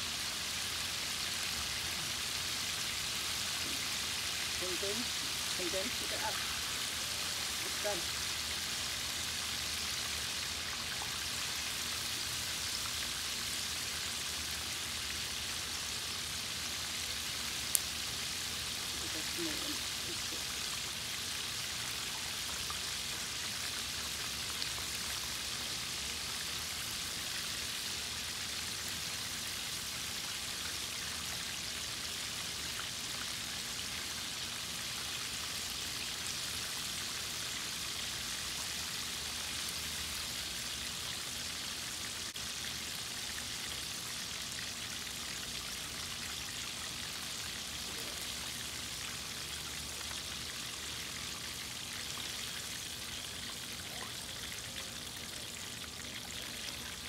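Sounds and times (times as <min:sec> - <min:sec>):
chicken deep-frying in oil: 0:00.0 - 0:57.0.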